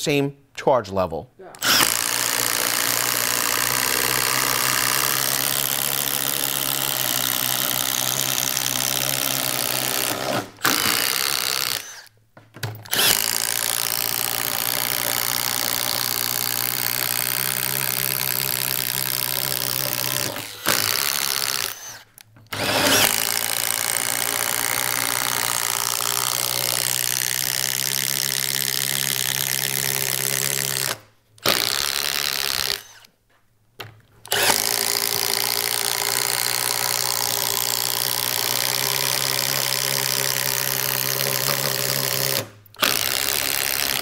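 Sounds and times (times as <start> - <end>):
impact drivers boring holes: 1.6 - 33.1, 34.2 - 44.0.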